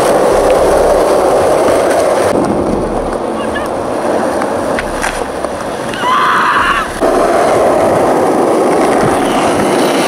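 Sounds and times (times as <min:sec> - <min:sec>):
skateboard wheels rolling on pavement: 0:00.0 - 0:10.0.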